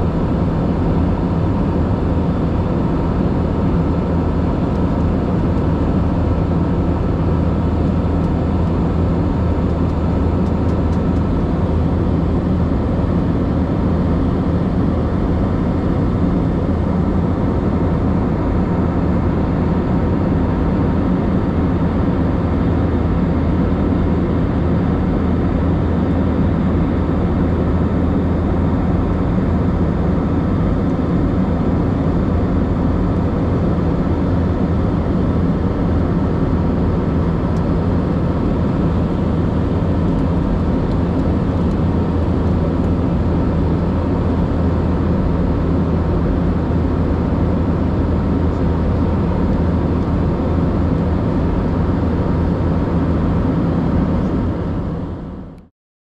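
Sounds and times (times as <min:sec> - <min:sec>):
jet engine drone in cabin: 0:00.0 - 0:55.7.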